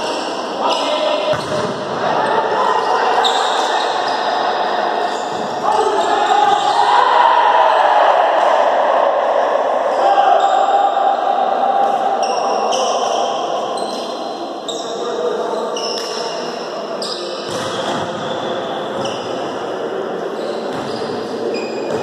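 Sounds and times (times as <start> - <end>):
sports hall ambience: 0.0 - 22.0.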